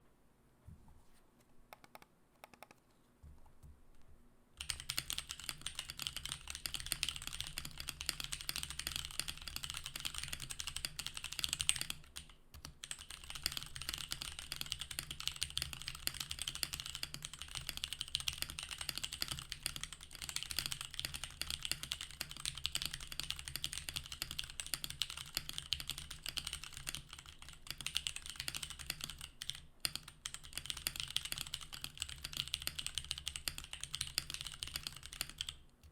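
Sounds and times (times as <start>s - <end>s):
fast mechanical keyboard typing: 4.6s - 35.9s.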